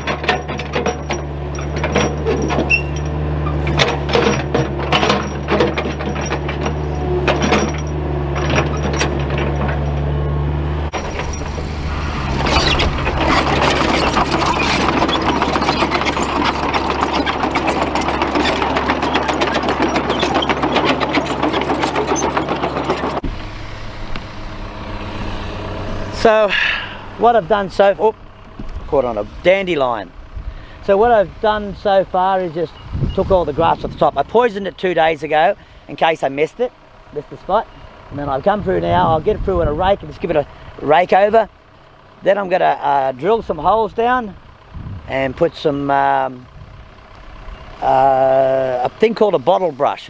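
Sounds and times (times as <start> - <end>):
engine running with rattling knocks: 0.0 - 50.0.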